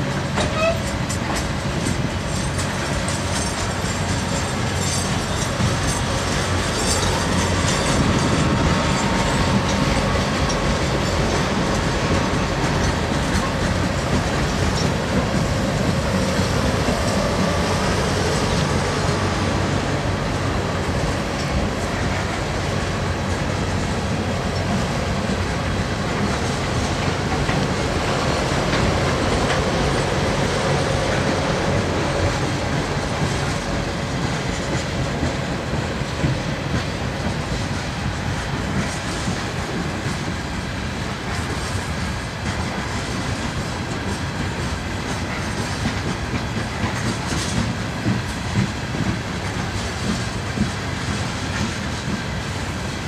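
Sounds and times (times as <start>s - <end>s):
freight train rolling past: 0.0s - 53.0s
wheels clacking over rail joints: 0.0s - 53.0s.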